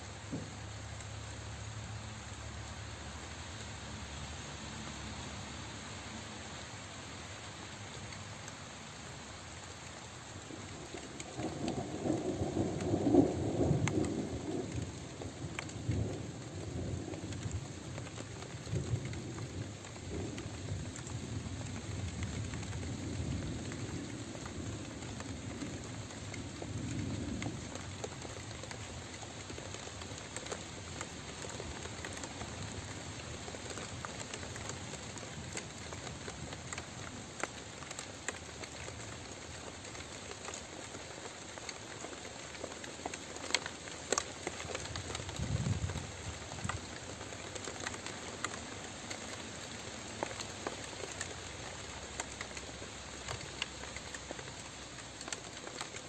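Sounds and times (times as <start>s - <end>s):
rain pattering on surfaces: 0.0s - 56.0s.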